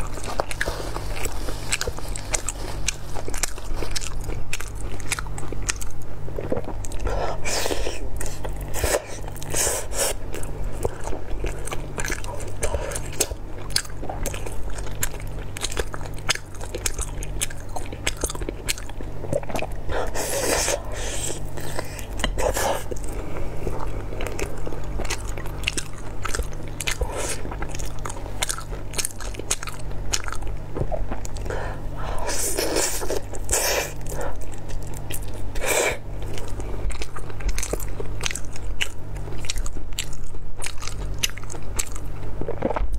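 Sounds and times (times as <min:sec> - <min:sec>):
close chewing and mouth smacks: 0:00.0 - 0:42.9.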